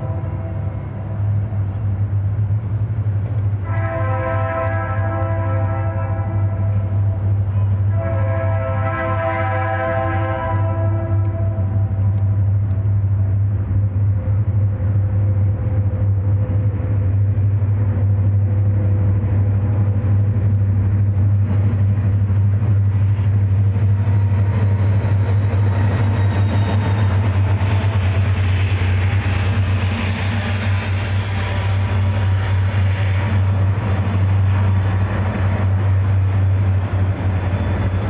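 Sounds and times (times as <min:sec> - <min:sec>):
diesel locomotives droning: 0:00.0 - 0:38.0
wheel and rail noise: 0:00.0 - 0:38.0.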